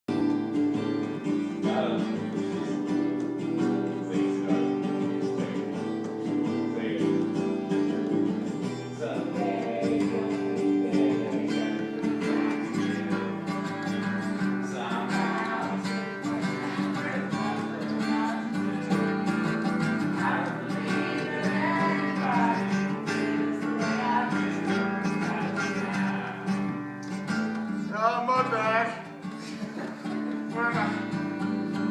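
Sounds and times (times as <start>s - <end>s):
acoustic guitar strumming: 0.1s - 31.9s
person singing: 0.1s - 31.9s.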